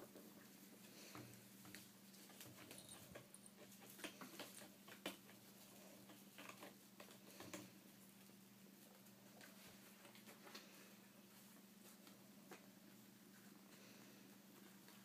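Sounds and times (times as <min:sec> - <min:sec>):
paws scrabbling on tile floor: 0:00.0 - 0:15.0.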